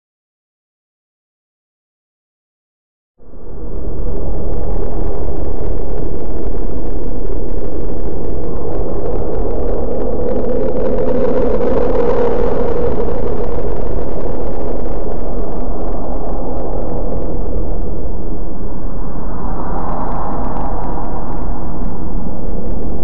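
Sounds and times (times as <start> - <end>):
deep synthetic drone: 3.2 - 23.0
middle-pitched hum: 3.2 - 23.0.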